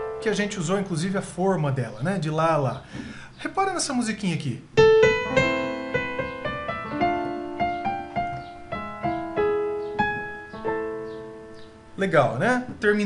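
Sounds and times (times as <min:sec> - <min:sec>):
digital piano chords: 0:00.0 - 0:02.9, 0:04.6 - 0:13.0.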